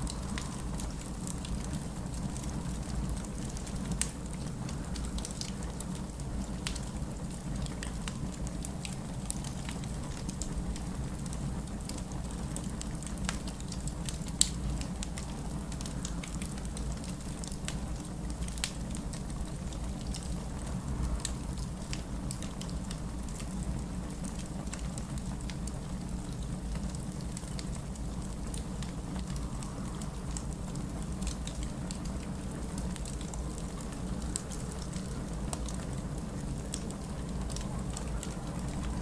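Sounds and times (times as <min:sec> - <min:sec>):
low fire rumble: 0:00.0 - 0:39.0
wood fire crackling and popping: 0:00.0 - 0:39.0.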